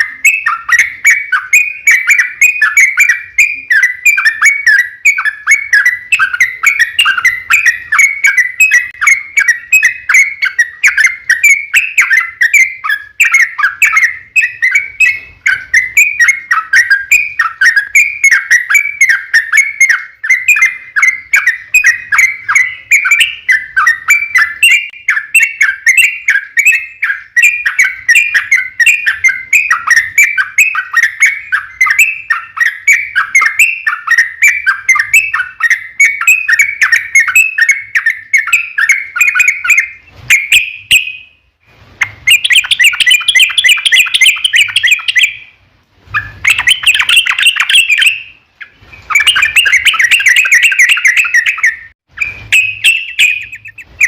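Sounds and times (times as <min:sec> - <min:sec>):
bulbul singing rapid notes: 0:00.0 - 0:41.2, 0:42.0 - 0:45.5, 0:46.1 - 0:54.0.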